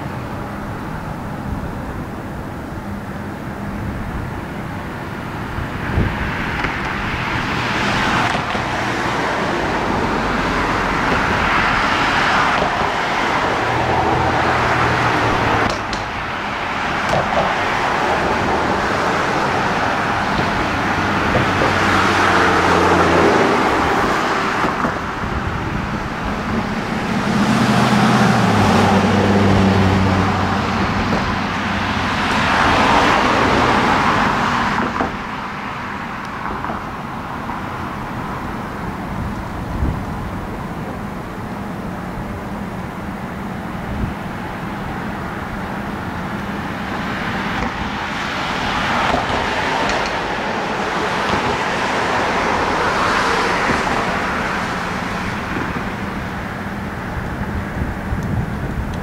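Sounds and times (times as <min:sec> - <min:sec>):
low engine hum: 0:00.0 - 0:59.0
vehicles passing close by: 0:00.0 - 0:59.0.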